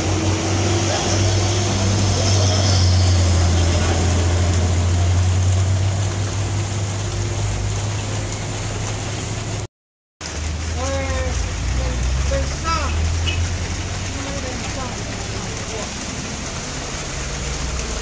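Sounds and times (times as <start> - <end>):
tyres hissing on wet road: 0.0 - 18.0.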